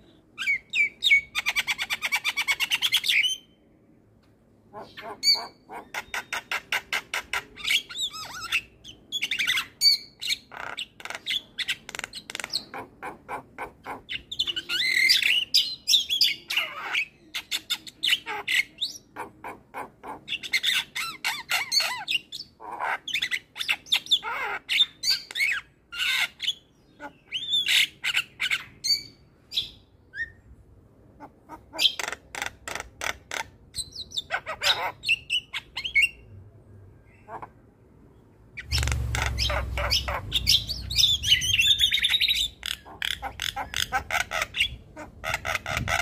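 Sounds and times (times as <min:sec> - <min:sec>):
myna bird singing: 0:00.0 - 0:03.7, 0:04.7 - 0:30.5, 0:31.2 - 0:46.0.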